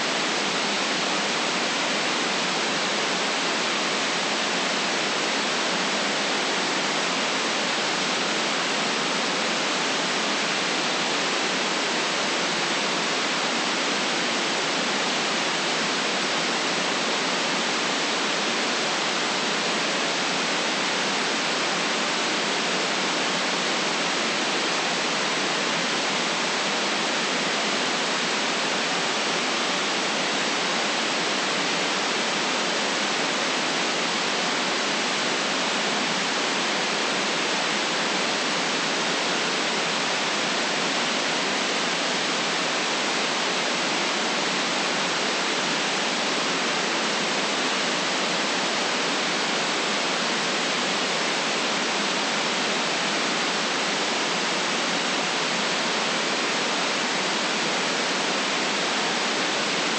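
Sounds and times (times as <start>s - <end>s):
electronic white noise hiss: 0.0s - 59.9s.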